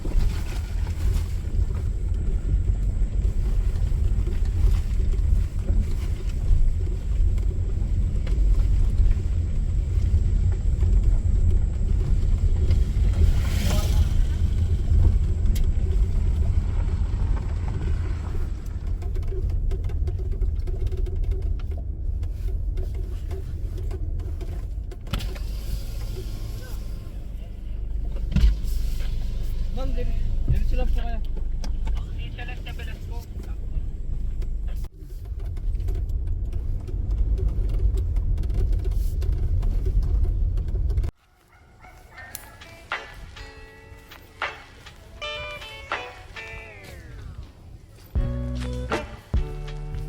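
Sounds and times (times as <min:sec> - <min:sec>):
car rumbling on the move: 0:00.0 - 0:41.2, 0:46.9 - 0:50.0.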